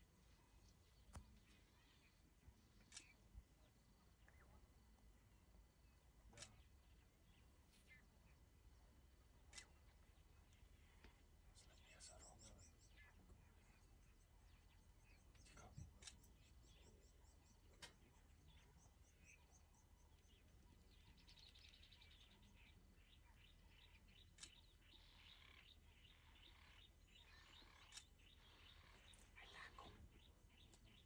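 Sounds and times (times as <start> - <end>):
faint bird chirps and trills: 0.0 - 31.0.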